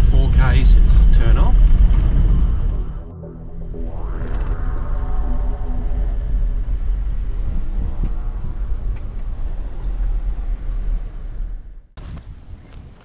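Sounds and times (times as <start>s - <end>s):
engine and tyres rumbling: 0.0s - 12.8s.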